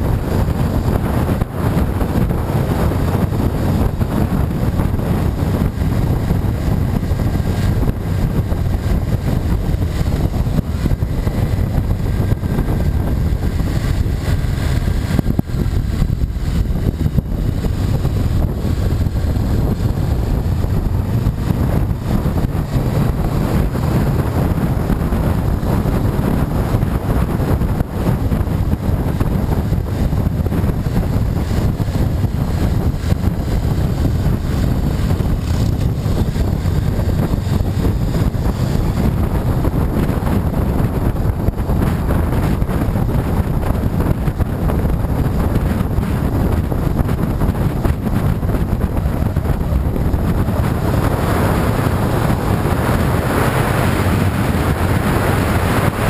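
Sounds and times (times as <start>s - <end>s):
motorcycle engine cruising: 0.0s - 56.0s
wind rumble on microphone: 0.0s - 56.0s.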